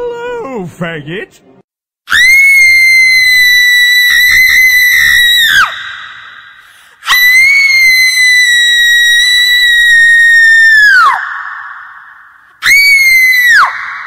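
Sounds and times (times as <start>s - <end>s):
shrill scream: 2.1s - 14.0s.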